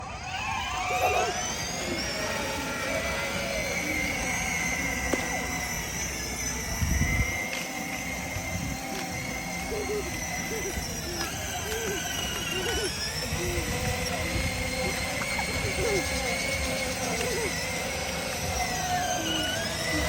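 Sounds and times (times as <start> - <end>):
low rumble of wheels: 0.0 - 20.0
toy truck motor whining: 0.0 - 20.0.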